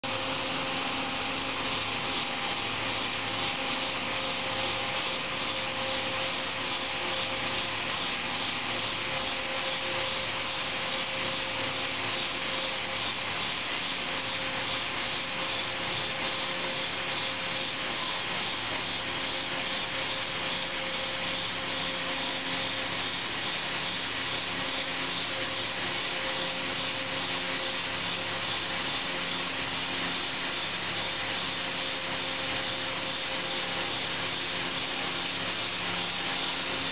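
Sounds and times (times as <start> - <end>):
cnc machine motor hum: 0.0 - 36.9.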